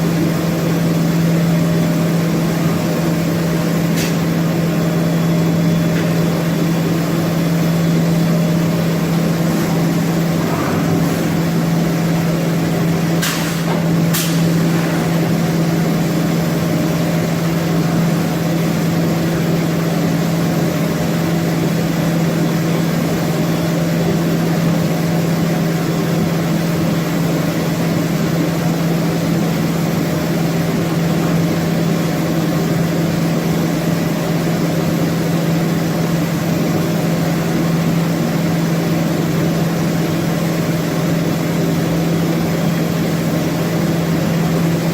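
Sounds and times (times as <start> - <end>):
machine humming: 0.0 - 44.9.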